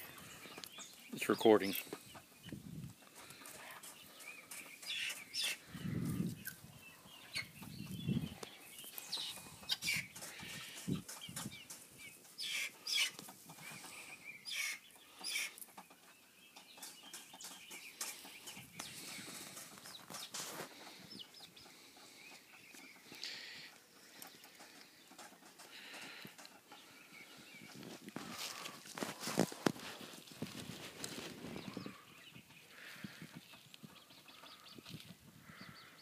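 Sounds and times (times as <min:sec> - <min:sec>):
hen clucking: 0:00.0 - 0:28.8, 0:31.2 - 0:35.0.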